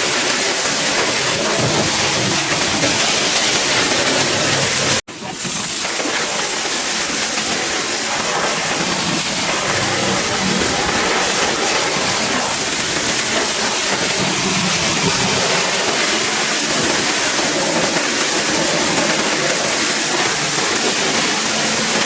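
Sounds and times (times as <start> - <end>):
pressure washer spraying water: 0.0 - 22.0.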